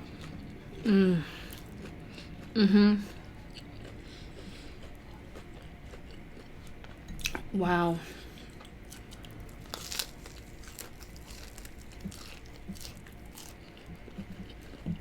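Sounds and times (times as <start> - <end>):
person chewing crunchy food: 0.0 - 7.5, 8.3 - 15.0.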